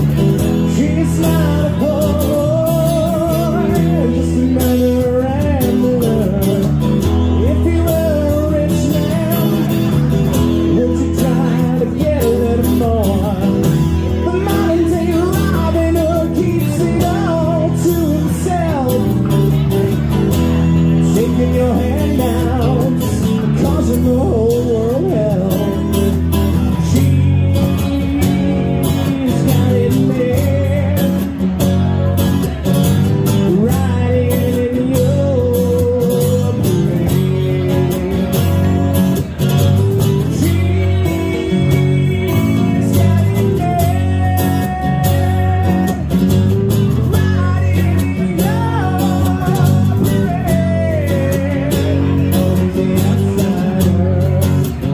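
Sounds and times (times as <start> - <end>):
electric bass: 0.0 - 54.9
man singing: 0.0 - 54.9
strummed acoustic guitar: 0.0 - 54.9.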